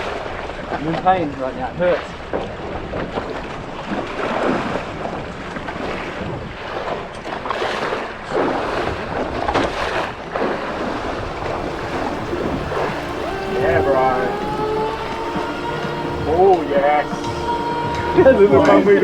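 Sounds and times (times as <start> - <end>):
water and hull noise: 0.0 - 19.0
wind rushing over microphone: 0.0 - 19.0.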